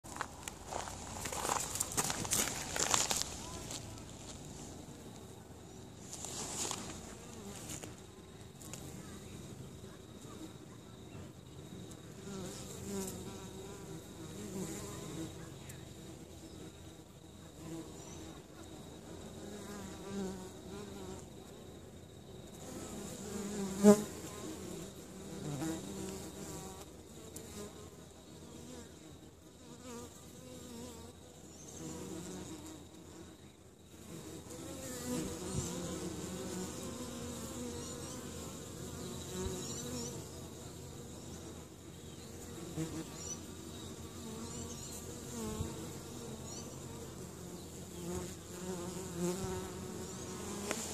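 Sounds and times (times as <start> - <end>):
bees and wasps buzzing: 0.1 - 50.9.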